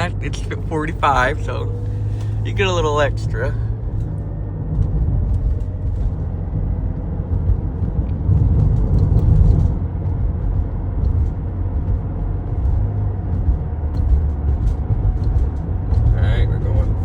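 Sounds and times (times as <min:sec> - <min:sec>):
engine and road noise: 0:00.0 - 0:17.0.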